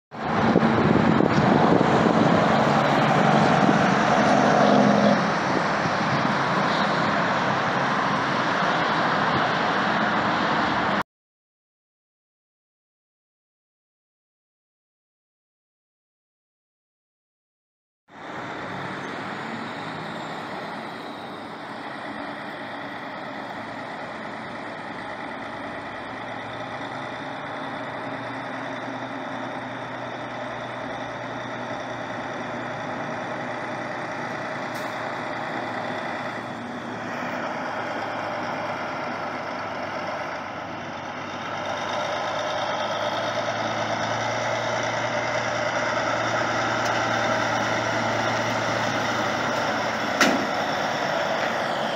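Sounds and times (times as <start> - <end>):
highway traffic: 0.1 - 11.0, 18.1 - 51.9
truck engine running: 0.2 - 11.0, 18.2 - 51.9.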